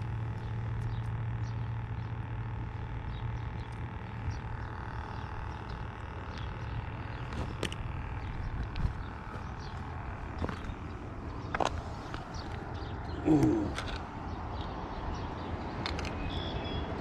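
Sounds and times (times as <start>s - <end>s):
low continuous hum: 0.0s - 17.0s.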